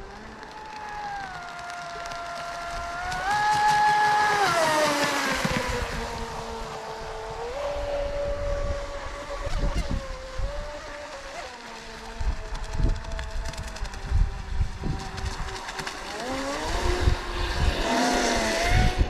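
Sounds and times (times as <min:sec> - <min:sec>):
electric boat motor whining: 0:00.0 - 0:19.0.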